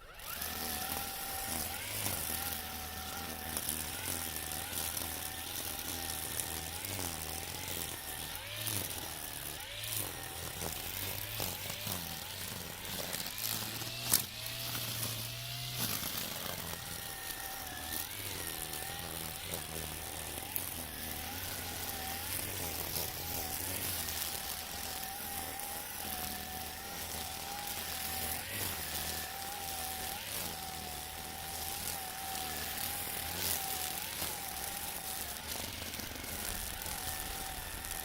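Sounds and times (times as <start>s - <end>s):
string trimmer motor whine: 0.0s - 38.0s
trimmer line hissing through grass: 0.0s - 38.0s.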